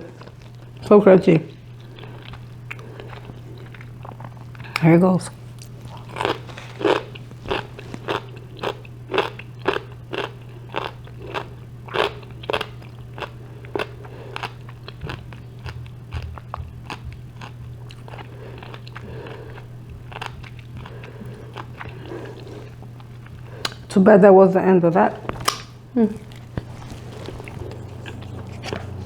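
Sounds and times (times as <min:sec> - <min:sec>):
crunchy chewing: 0:00.0 - 0:00.9, 0:01.5 - 0:23.9, 0:25.1 - 0:29.0
steady low hum: 0:00.0 - 0:29.0.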